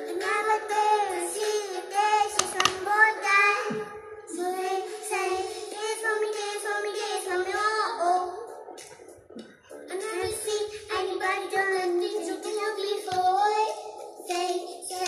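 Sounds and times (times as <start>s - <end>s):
girl singing in a high voice: 0.0s - 8.5s, 9.9s - 15.0s.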